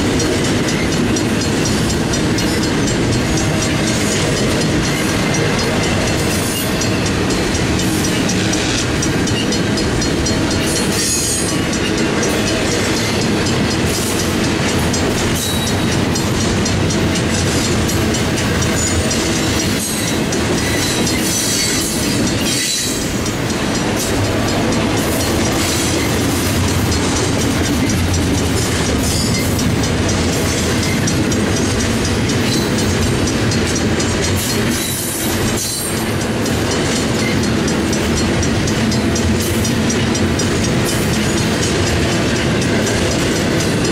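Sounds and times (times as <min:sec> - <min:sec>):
crossing bell ringing: 0:00.0 - 0:43.9
train wheels clattering on rails: 0:00.0 - 0:43.9.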